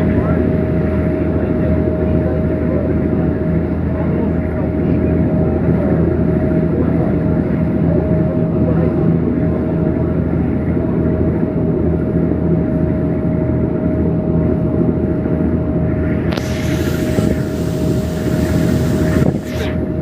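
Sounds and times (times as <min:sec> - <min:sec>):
large engine droning: 0:00.0 - 0:20.0.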